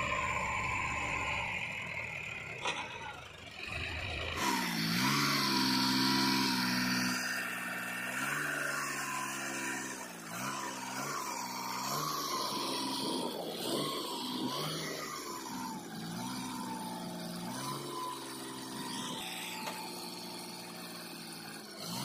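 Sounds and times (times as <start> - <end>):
diesel tractor engine under load: 0.0 - 22.0.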